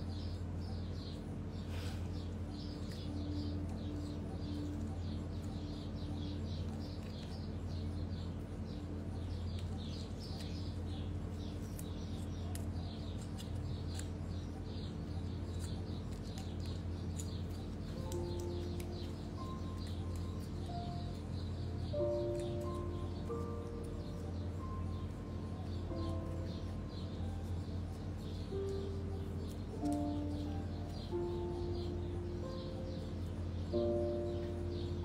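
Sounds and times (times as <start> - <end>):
high chirping: 0.0 - 35.0.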